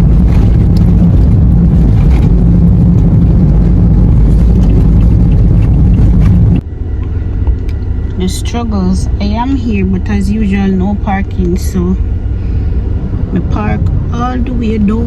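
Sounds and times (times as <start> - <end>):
car wind and road noise: 0.0 - 15.0.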